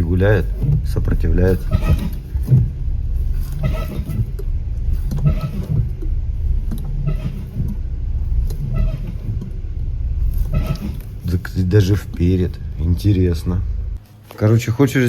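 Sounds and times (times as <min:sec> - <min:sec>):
suspension creaks and knocks: 0:00.0 - 0:14.1
car rumbling: 0:00.0 - 0:15.0.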